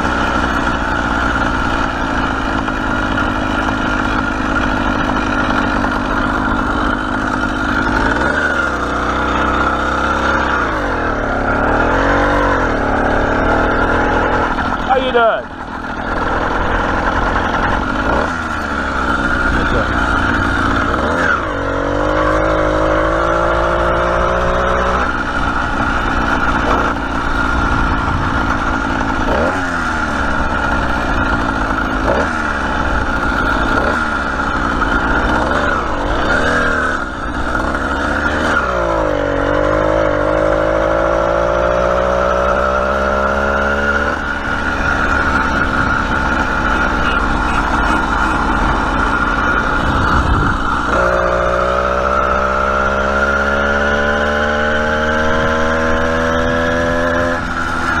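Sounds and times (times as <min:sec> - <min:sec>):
small motorbike engine running: 0:00.0 - 0:58.0.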